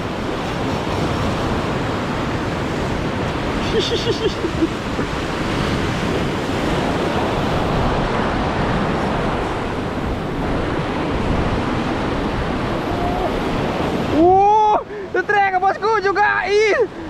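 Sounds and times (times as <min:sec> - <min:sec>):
wind on microphone: 0:00.0 - 0:14.5
surf washing over reef: 0:00.0 - 0:17.0.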